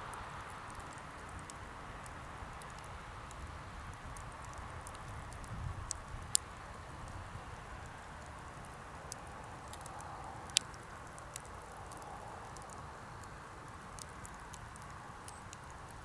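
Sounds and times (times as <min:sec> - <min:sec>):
faint steady hiss: 0:00.0 - 0:16.0
wood fire crackling: 0:00.0 - 0:16.0
loud fire snaps: 0:00.1 - 0:16.0.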